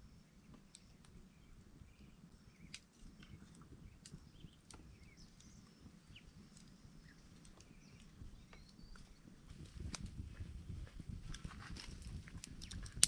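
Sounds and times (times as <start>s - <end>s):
campfire crackling and popping: 0.4s - 13.0s.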